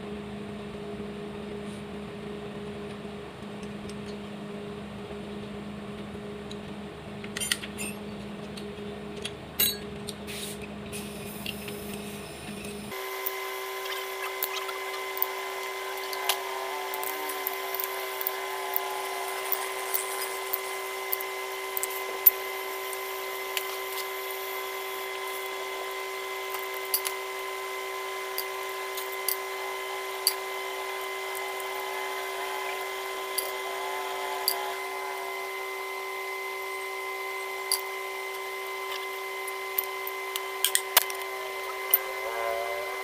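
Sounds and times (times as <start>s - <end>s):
steady hum: 0.0s - 43.0s.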